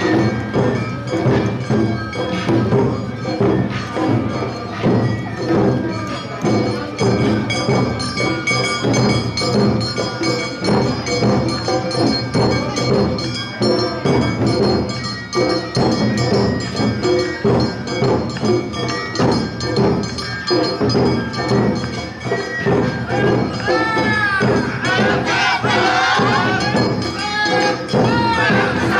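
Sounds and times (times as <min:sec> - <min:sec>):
drums beating marching rhythm: 0:00.0 - 0:28.9
held high melodic tones: 0:00.0 - 0:28.9.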